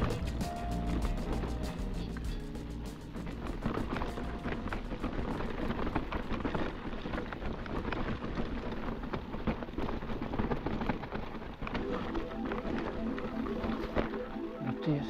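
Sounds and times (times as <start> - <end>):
bike tyres crunching and rattling: 0.0 - 14.9.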